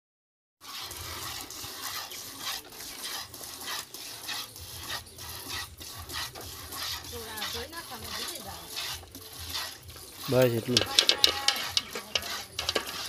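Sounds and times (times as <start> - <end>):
milk squirting into plastic bucket: 0.6 - 13.0.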